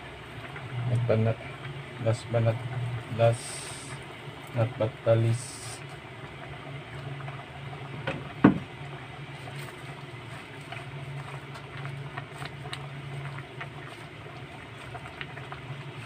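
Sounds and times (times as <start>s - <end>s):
broth simmering in pot: 0.0s - 16.0s
low hum: 0.0s - 16.0s.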